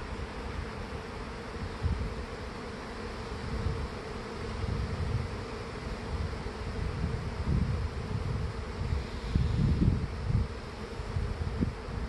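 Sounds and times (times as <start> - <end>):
bees swarming humming: 0.0 - 12.0.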